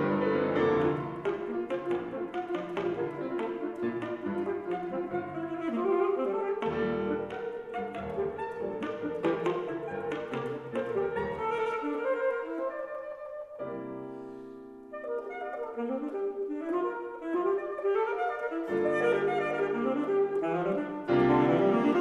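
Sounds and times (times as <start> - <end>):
alto saxophone: 0.0 - 22.0
piano: 0.0 - 22.0.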